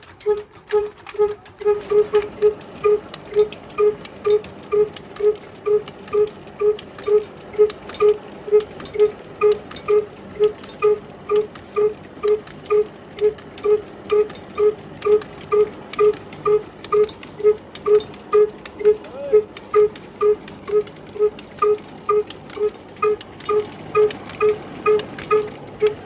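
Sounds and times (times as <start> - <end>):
diesel engine exhaust puffing: 0.0 - 26.0.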